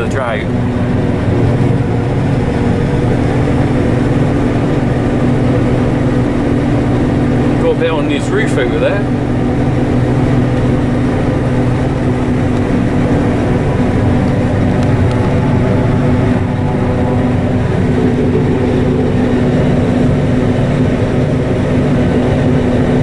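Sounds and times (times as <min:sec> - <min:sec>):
forage harvester machine hum: 0:00.0 - 0:23.0.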